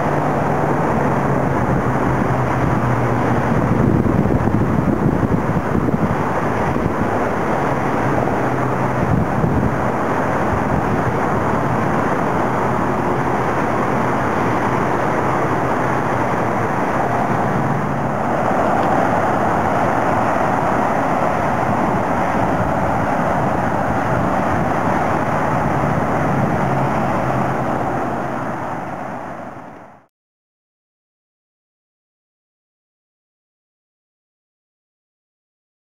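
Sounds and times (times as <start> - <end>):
rushing river ambience: 0.0 - 30.1.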